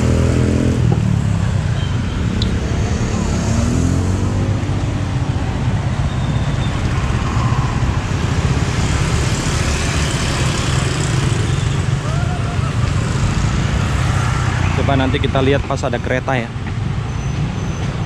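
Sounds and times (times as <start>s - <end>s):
car engines: 0.0s - 18.0s
motorcycle engines: 0.0s - 18.0s.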